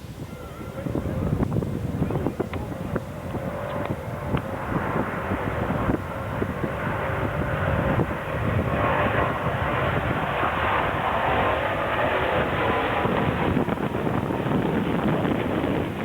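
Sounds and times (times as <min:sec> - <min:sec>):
airliner engines rushing: 0:00.0 - 0:16.0.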